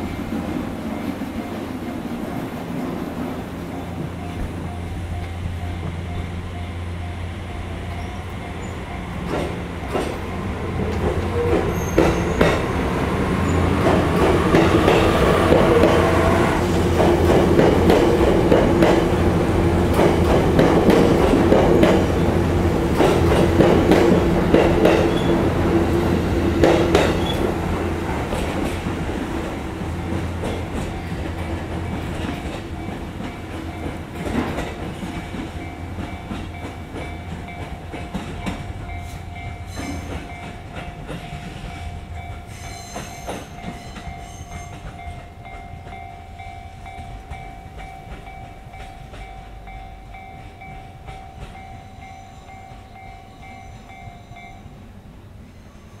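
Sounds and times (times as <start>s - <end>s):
train rumble: 0.0s - 56.0s
train wheels clattering: 7.9s - 54.3s.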